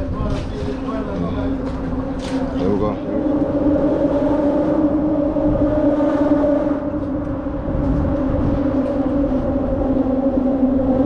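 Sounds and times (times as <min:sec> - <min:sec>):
traffic tyre hum on bridge: 0:00.0 - 0:11.0.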